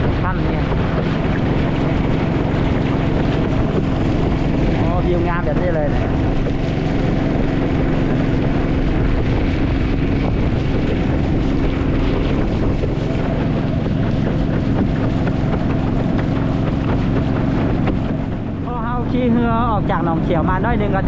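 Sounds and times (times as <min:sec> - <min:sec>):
motorboat engine running: 0:00.0 - 0:21.0
wind buffeting microphone: 0:00.0 - 0:21.0.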